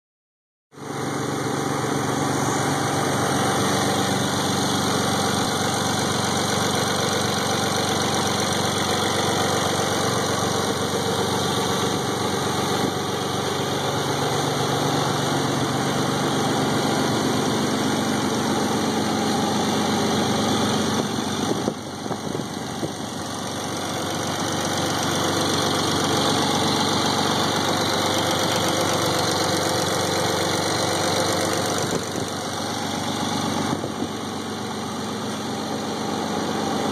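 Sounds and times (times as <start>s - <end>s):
car engine idling with ticking: 0.8s - 36.9s.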